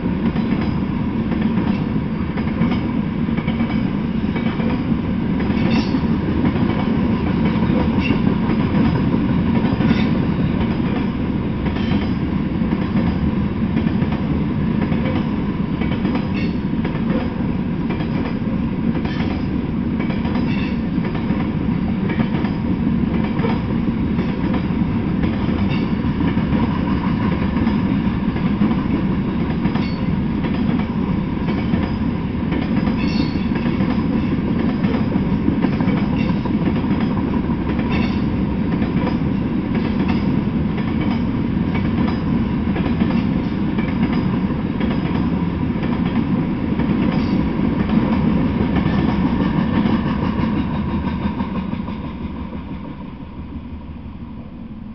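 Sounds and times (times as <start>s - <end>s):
train wheels rumbling on rails: 0.0s - 54.9s
wheels clacking over rail joints: 0.2s - 52.2s.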